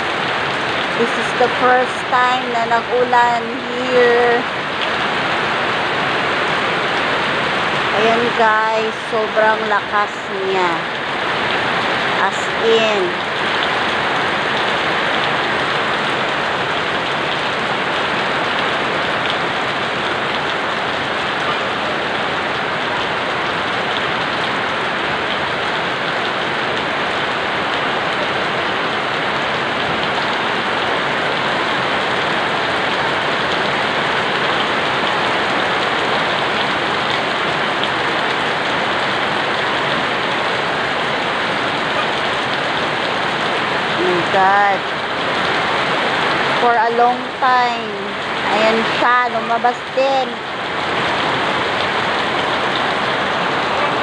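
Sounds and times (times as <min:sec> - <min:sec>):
heavy rain on concrete: 0:00.0 - 0:54.0.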